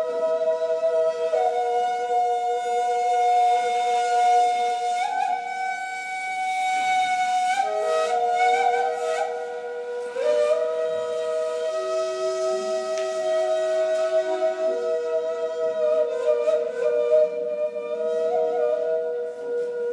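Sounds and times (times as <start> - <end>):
breathy reed flutes playing: 0.0 - 19.9.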